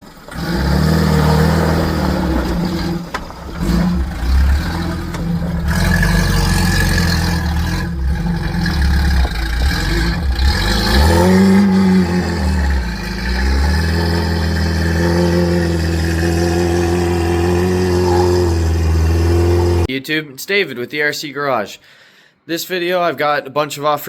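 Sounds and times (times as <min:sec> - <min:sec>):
engine running and revving: 0:00.0 - 0:19.9.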